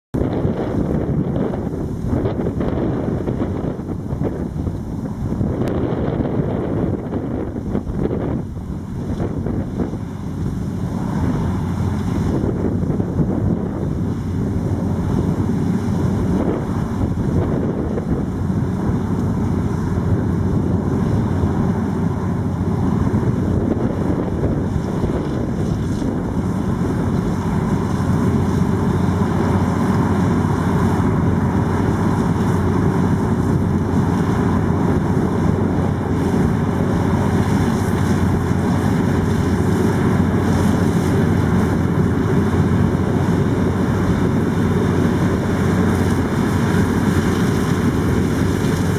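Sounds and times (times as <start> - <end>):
combine harvester running: 0.1 - 48.9
wind buffeting microphone: 0.1 - 48.9.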